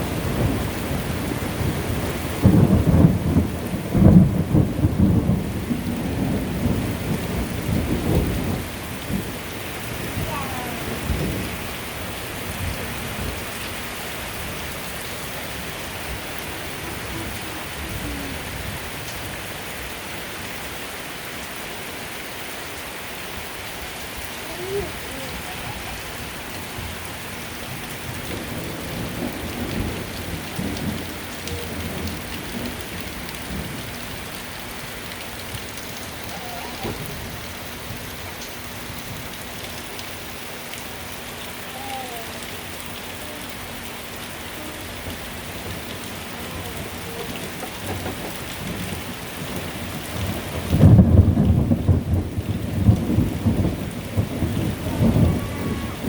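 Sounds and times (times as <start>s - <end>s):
thunder rumbling: 0.0s - 21.0s, 23.4s - 56.0s
steady rain falling: 0.0s - 56.0s.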